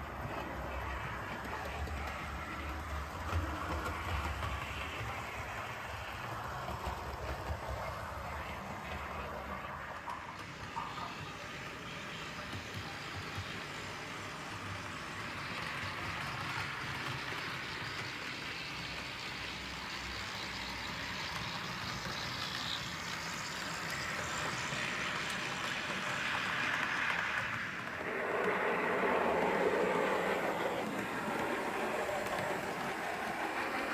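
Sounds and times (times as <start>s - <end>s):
model locomotive running: 0.0s - 33.9s.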